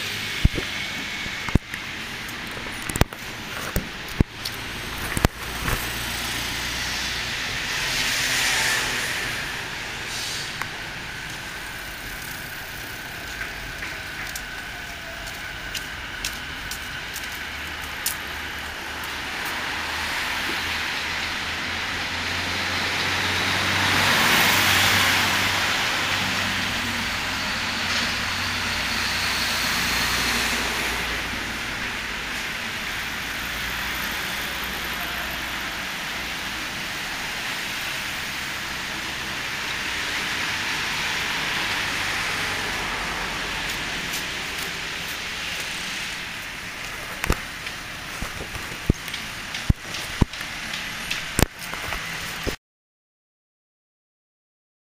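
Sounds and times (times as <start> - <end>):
traffic rumble on viaduct: 0.0 - 52.6.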